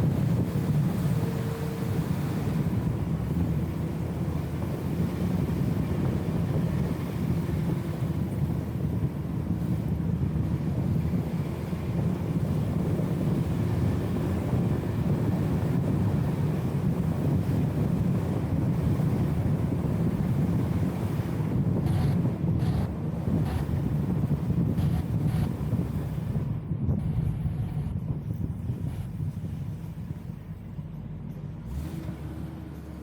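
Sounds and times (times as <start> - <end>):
car engine droning: 0.0 - 33.0
road noise: 0.0 - 33.0.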